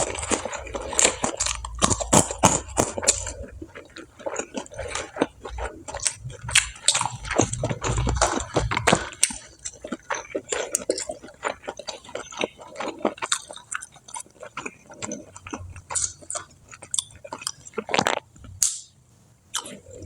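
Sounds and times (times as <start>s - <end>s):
person chewing crispy food: 0.0s - 18.9s, 19.6s - 20.0s.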